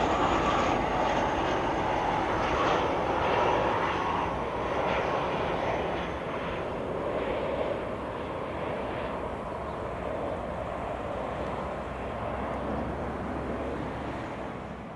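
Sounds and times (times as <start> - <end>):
jet engines rushing: 0.0 - 14.9.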